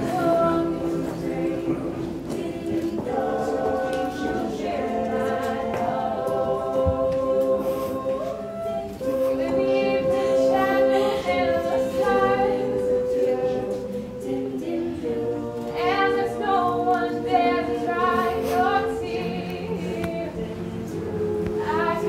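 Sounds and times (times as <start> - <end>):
voices singing in harmony: 0.0 - 22.0.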